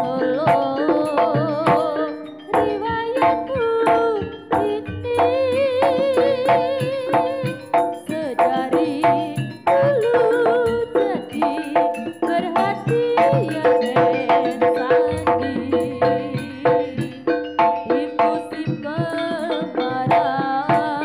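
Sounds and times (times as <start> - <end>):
drums: 0.0 - 21.0
metal-keyed percussion: 0.0 - 21.0
wavering held melody: 0.0 - 21.0.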